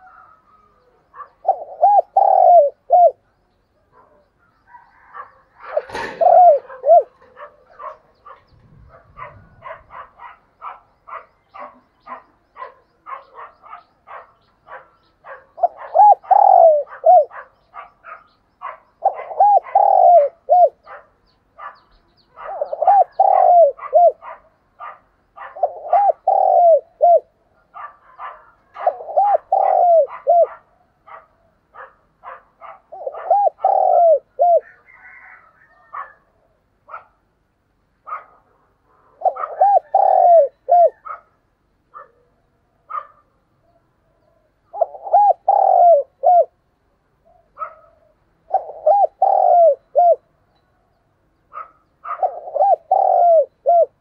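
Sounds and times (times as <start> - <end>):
dove cooing: 0.0 - 3.3, 3.9 - 37.0, 39.0 - 41.3, 42.9 - 46.6, 47.2 - 50.3, 51.5 - 54.0.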